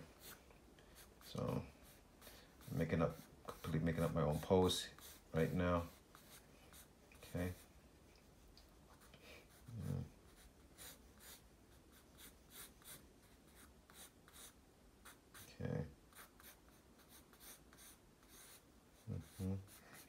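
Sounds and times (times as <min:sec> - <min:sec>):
pencil sketching on paper: 0:00.0 - 0:07.7, 0:08.9 - 0:20.0.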